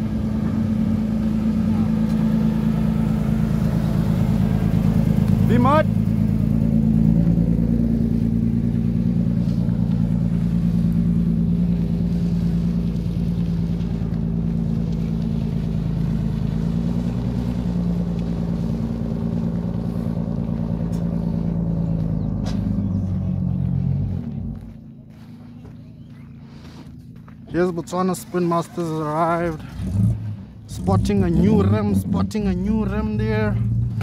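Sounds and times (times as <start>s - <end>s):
car engine running at low revs: 0.0s - 34.0s.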